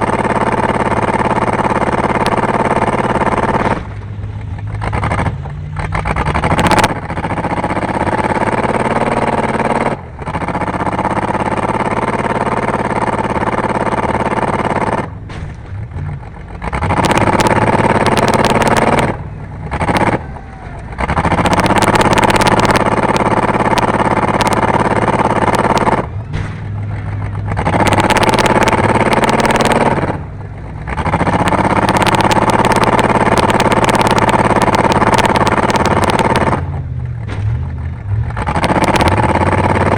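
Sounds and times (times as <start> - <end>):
race car engine at hard throttle: 0.0 - 39.9.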